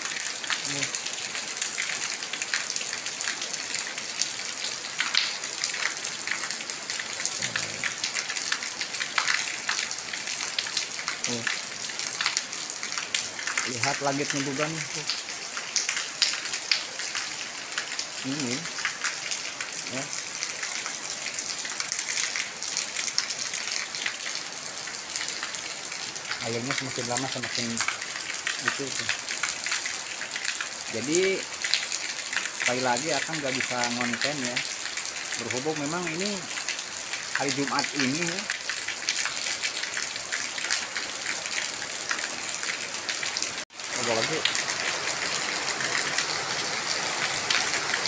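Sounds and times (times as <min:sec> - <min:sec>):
heavy rain on pavement: 0:00.0 - 0:48.0
water running over ground: 0:00.0 - 0:48.0.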